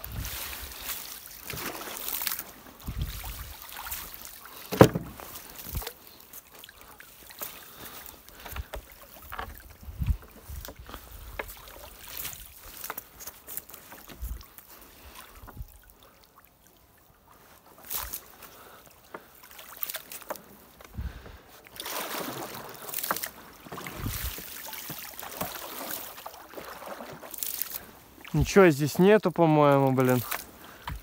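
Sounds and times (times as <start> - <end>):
water splashing and dripping: 0.0 - 31.0.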